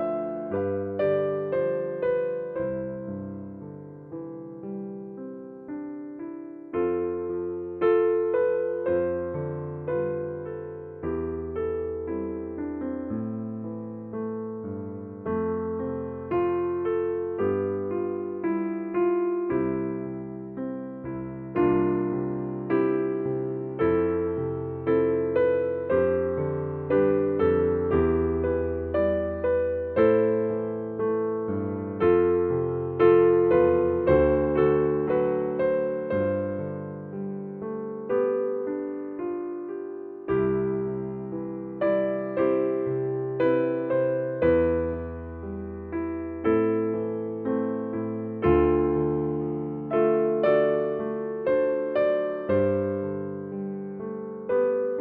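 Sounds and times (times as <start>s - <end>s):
slow gentle piano music: 0.0s - 55.0s.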